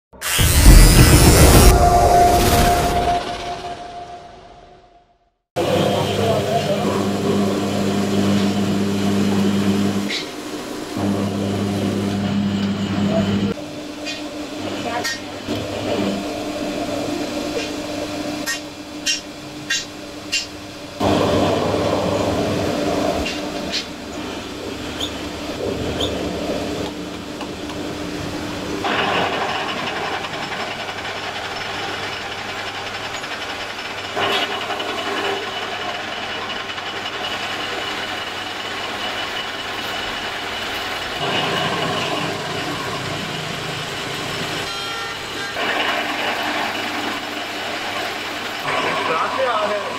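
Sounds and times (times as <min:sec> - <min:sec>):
metal lathe humming: 0:05.6 - 0:49.9.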